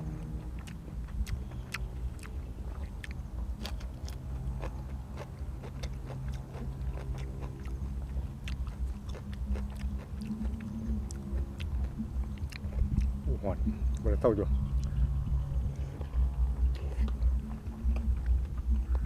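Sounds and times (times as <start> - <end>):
biting and chewing food: 0.0 - 19.0
steady low hum: 0.0 - 19.0.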